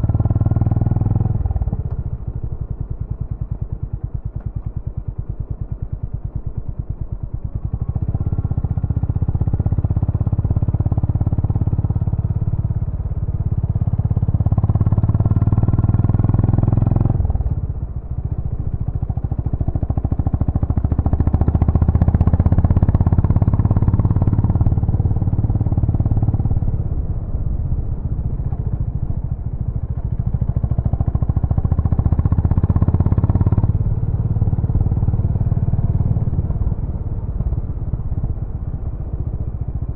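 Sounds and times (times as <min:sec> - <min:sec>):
motorcycle engine revving: 0:00.0 - 0:02.2, 0:07.6 - 0:17.6, 0:18.2 - 0:27.4, 0:28.5 - 0:39.7.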